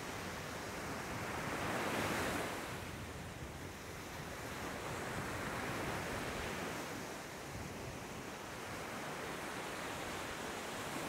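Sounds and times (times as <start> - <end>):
waves washing up beach: 0.0 - 11.0.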